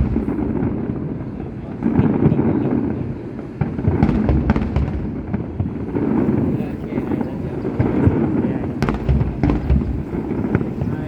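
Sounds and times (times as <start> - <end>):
fireworks booming: 0.0 - 11.0
fireworks crackling: 0.0 - 11.0.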